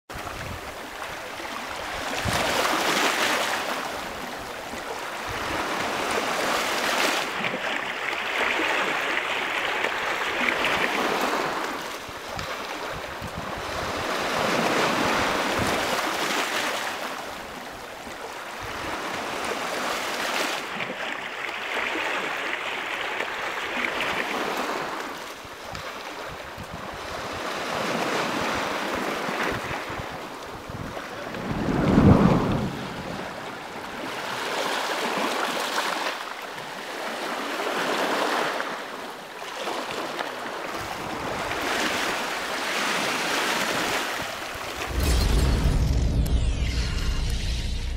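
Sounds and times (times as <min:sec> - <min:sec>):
sea surf breaking on shore: 0:00.1 - 0:47.9.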